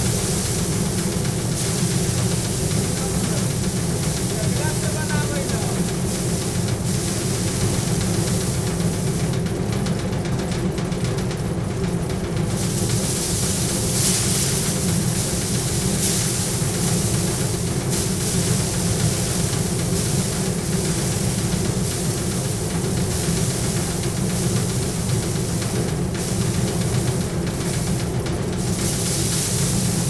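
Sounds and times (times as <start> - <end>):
grain hissing and rattling: 0.0 - 9.4, 12.5 - 30.0
thresher drum humming: 0.0 - 30.0.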